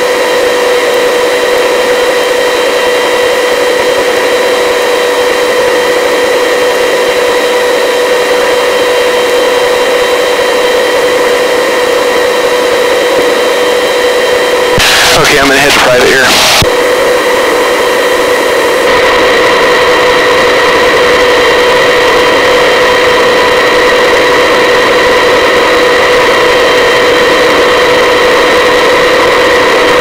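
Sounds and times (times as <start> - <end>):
helicopter engine and rotor noise: 0.0 - 30.0.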